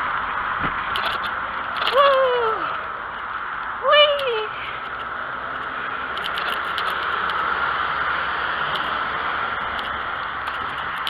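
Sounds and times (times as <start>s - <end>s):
bicycle tyres and air rushing: 0.0s - 3.8s, 4.5s - 11.0s
small clicks and rattles: 0.8s - 11.0s.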